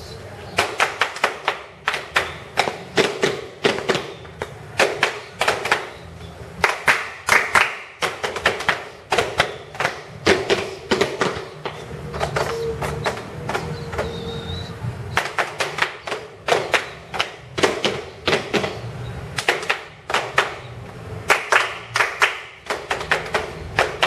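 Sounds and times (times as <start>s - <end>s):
body percussion claps and slaps: 0.6s - 6.0s, 6.6s - 14.1s, 15.1s - 24.0s.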